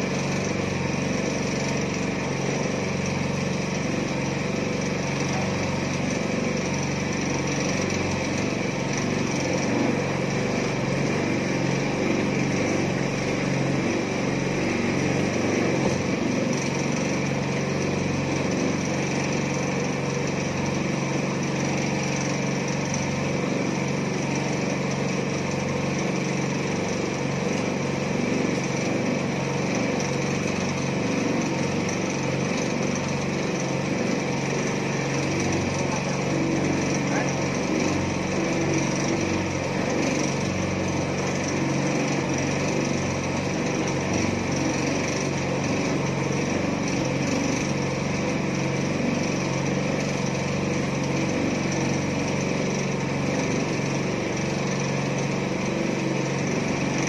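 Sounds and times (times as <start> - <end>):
small petrol engine running: 0.0 - 57.0.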